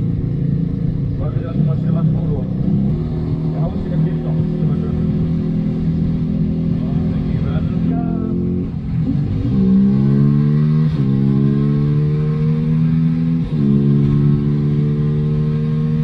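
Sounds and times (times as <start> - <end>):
motorcycle engine accelerating through gears: 0.0 - 16.0.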